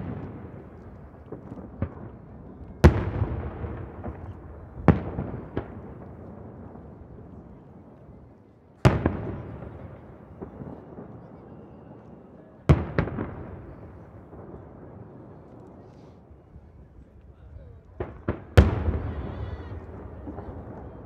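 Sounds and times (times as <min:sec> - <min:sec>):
firework shells booming with echo: 0:00.0 - 0:07.5, 0:08.8 - 0:12.0, 0:12.7 - 0:16.3, 0:17.9 - 0:21.0
smaller firework bangs: 0:00.0 - 0:08.0, 0:08.8 - 0:17.0, 0:17.8 - 0:21.0.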